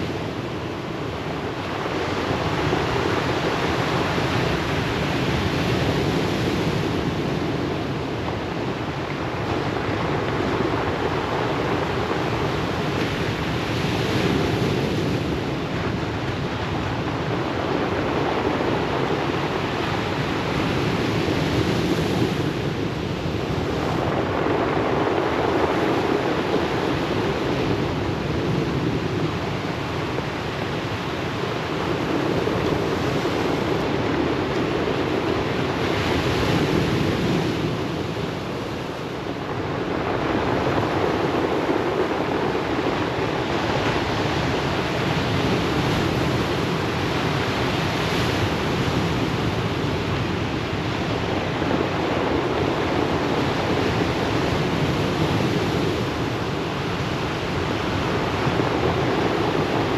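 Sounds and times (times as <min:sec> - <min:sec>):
ocean surf washing onto beach: 0:00.0 - 0:59.9.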